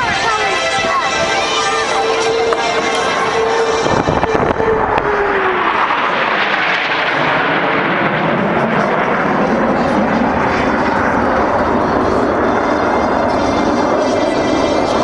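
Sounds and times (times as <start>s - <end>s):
jet engine roar in flight: 0.0s - 15.0s.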